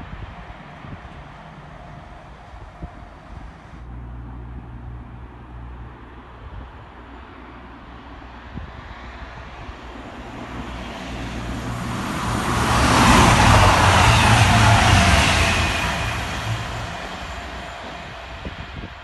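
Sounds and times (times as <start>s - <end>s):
diesel train approaching: 0.0s - 19.0s.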